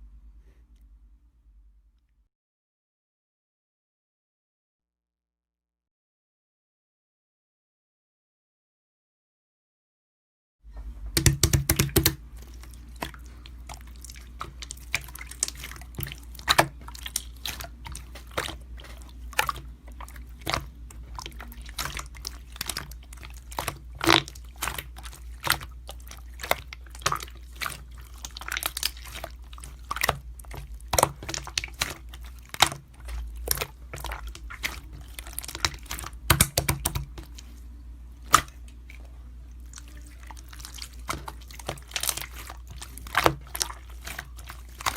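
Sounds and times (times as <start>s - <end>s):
low steady hum: 0.0s - 2.3s, 10.7s - 44.9s.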